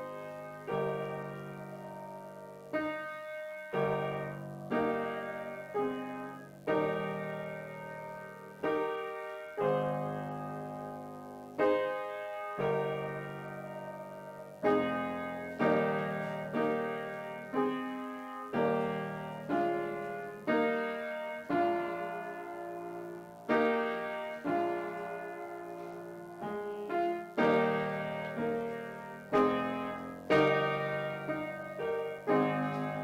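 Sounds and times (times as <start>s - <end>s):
piano chords: 0.0s - 33.0s.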